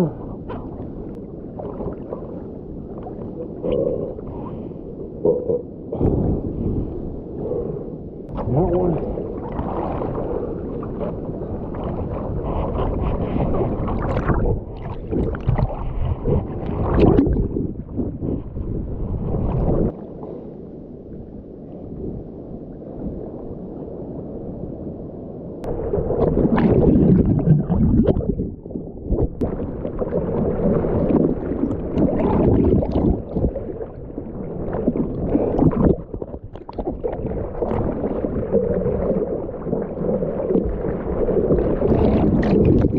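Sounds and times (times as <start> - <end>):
ocean water splashing: 0.0 - 42.9.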